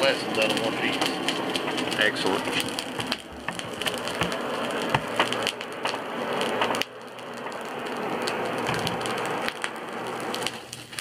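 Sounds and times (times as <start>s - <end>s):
charcoal fire hissing and crackling: 0.0s - 11.0s.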